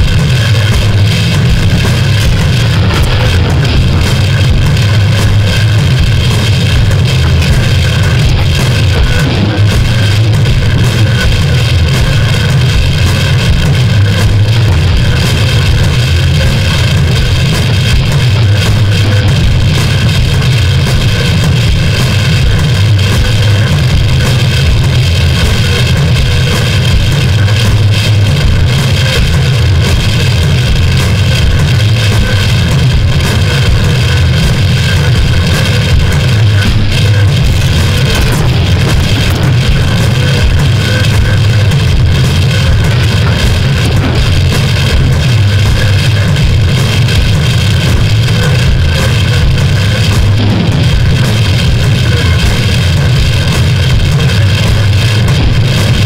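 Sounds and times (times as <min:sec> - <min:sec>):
harsh distorted noise music: 0:00.0 - 0:56.0.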